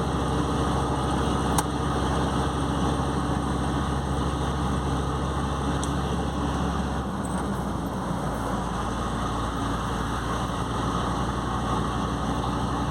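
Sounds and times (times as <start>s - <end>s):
diesel truck engine running: 0.0s - 12.9s.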